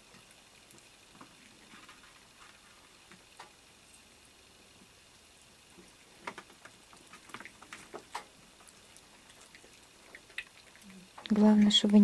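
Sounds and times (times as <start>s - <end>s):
cats chewing wetly: 0.0s - 12.0s.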